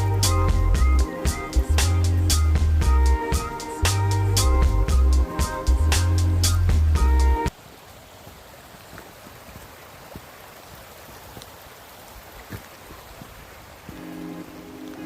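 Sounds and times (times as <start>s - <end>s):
stream running water: 0.0s - 15.0s.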